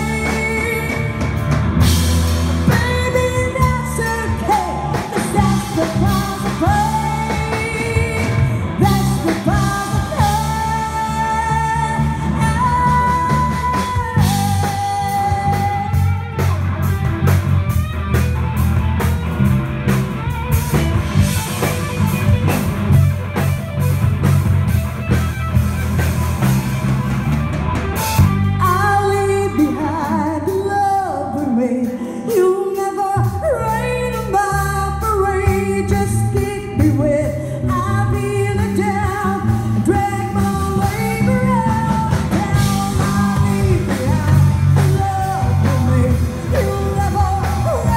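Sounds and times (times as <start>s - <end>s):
live rock band playing: 0.0s - 47.9s
sliding lead guitar melody: 0.0s - 47.9s.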